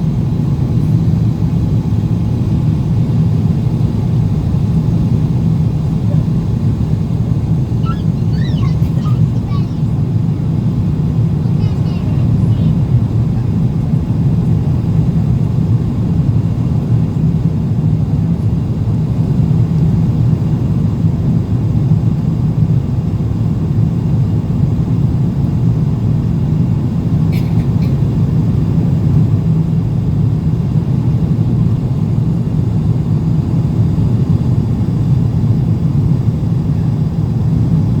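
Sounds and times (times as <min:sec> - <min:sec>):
airplane cabin roar: 0:00.0 - 0:38.0.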